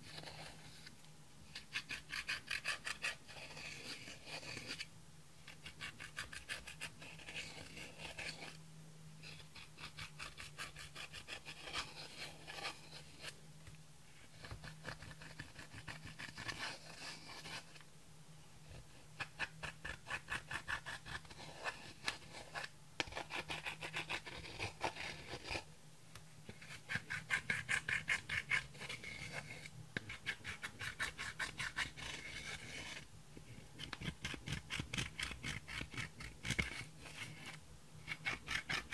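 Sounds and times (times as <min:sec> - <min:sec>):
eyeshadow scraped with tool: 0:00.0 - 0:08.6, 0:09.2 - 0:13.4, 0:14.2 - 0:17.8, 0:18.7 - 0:25.7, 0:26.5 - 0:38.9.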